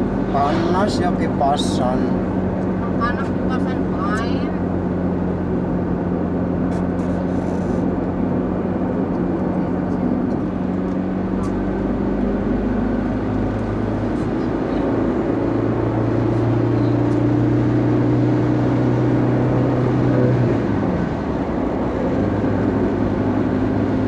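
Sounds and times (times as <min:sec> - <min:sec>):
road and wind noise: 0:00.0 - 0:24.0
vehicle engine running: 0:00.0 - 0:24.0.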